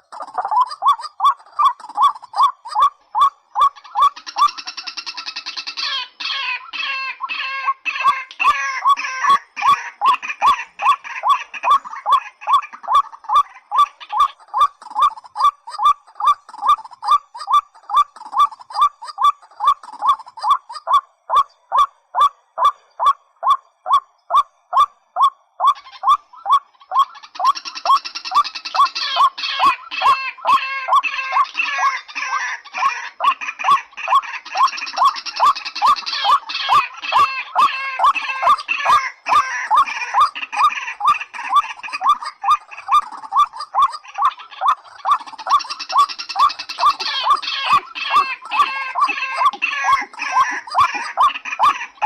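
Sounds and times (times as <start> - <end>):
waterhen croaking calls: 0.0 - 52.0.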